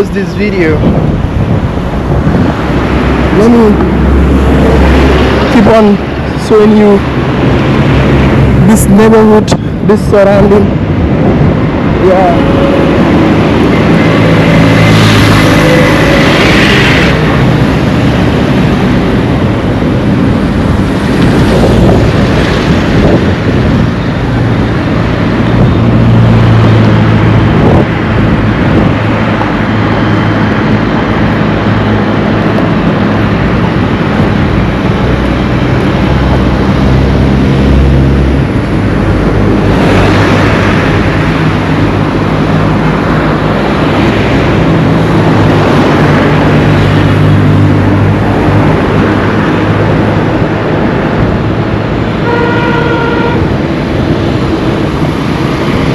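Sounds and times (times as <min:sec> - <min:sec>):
vehicle engines passing close: 0:00.0 - 0:55.9.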